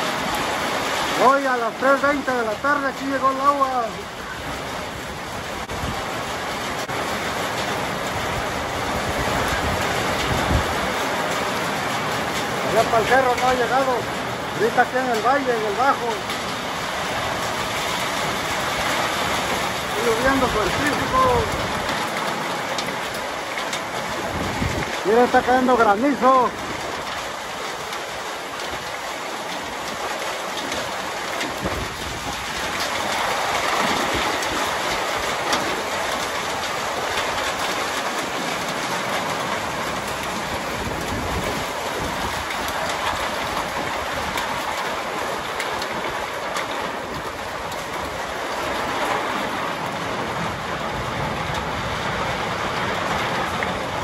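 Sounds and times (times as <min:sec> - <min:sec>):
hailstones pattering on hard surfaces: 0:00.0 - 0:54.0
heavy rain rushing: 0:00.0 - 0:54.0.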